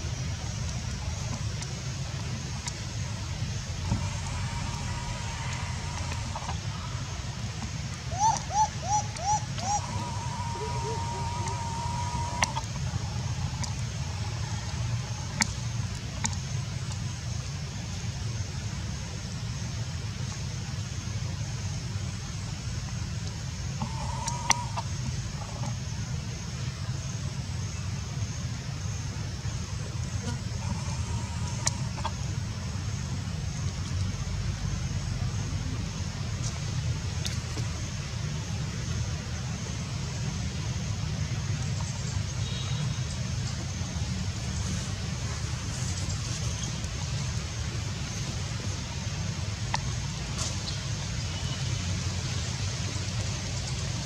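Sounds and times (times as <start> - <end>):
faint high hiss: 0.0 - 54.0
low background rumble: 0.0 - 54.0.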